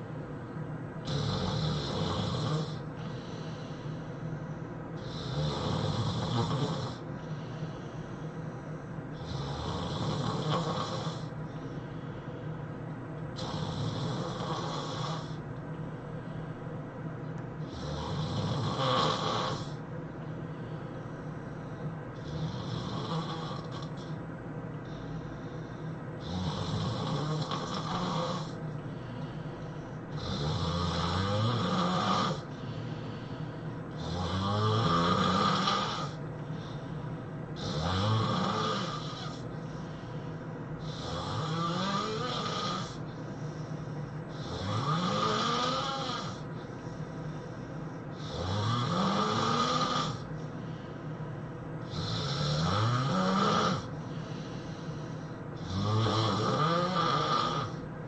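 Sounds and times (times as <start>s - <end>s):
person snoring heavily: 1.0s - 4.3s, 5.0s - 12.1s, 13.4s - 15.4s, 17.6s - 19.8s, 22.2s - 24.2s, 24.8s - 37.0s, 37.6s - 50.9s, 51.8s - 57.8s.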